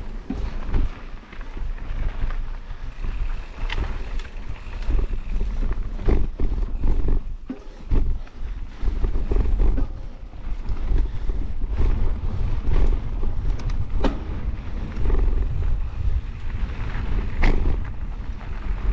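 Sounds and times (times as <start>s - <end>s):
bike knocks and rattles: 0.0s - 18.9s
tyres rumbling over dirt: 0.0s - 18.9s
wind buffeting microphone: 1.5s - 18.9s.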